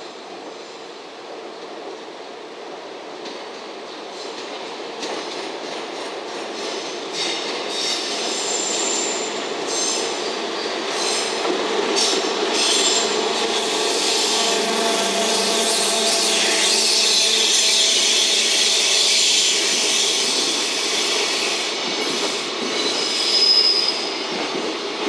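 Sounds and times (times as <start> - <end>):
freight train passing: 0.0 - 25.0.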